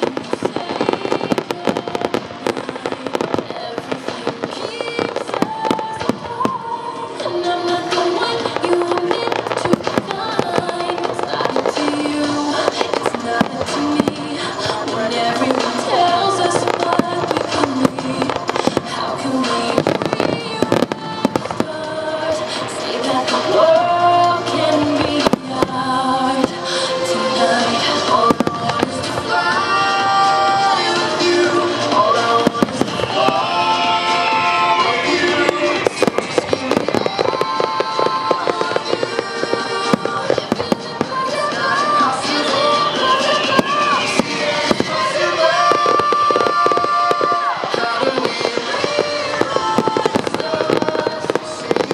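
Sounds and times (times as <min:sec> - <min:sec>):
fireworks bursting with bangs: 0:00.0 - 0:51.9
music playing: 0:00.0 - 0:51.9.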